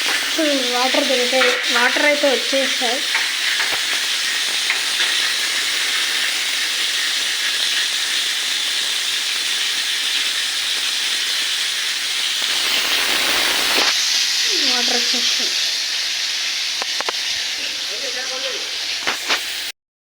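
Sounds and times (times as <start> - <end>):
water gushing from pipe: 0.0 - 19.7.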